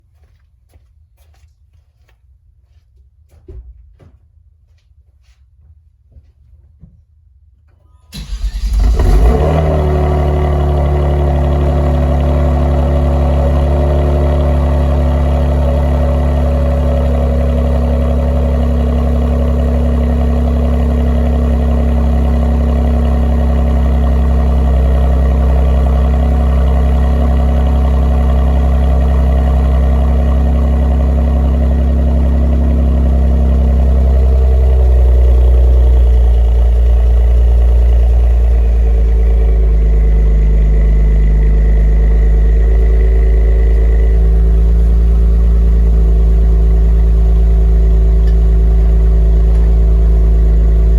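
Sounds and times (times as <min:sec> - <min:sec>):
car engine idling: 0:08.1 - 0:50.9.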